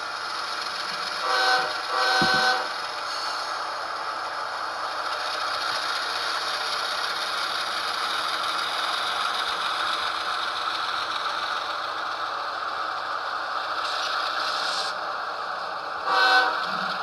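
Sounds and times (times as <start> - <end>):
rattle of model train wheels: 0.0 - 15.5
diesel locomotive sound from speaker: 0.0 - 17.0.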